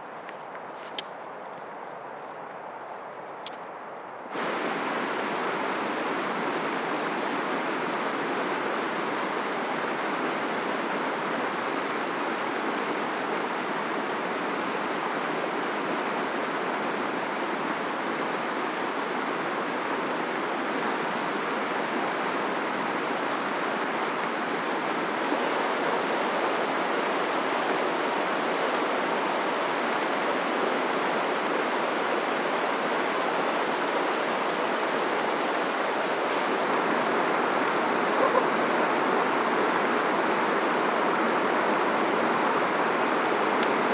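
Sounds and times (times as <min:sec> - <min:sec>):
river rushing over rocks: 0:04.3 - 0:43.9.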